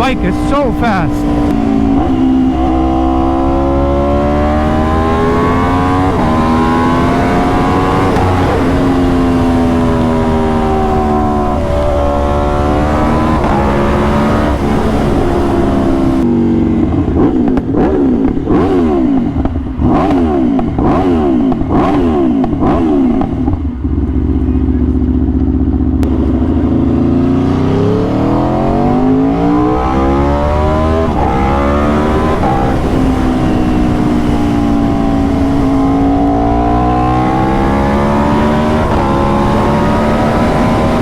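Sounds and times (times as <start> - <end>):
sportbike engine revving: 0.0 - 41.0.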